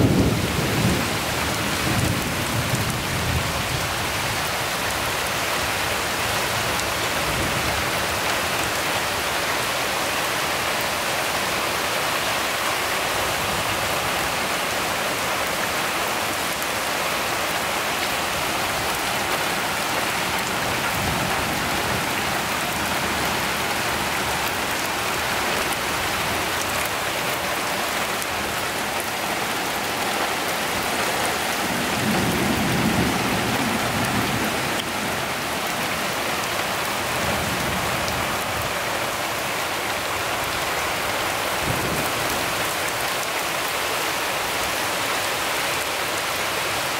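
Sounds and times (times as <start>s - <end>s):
rain on leaves and roofs: 0.0s - 46.9s.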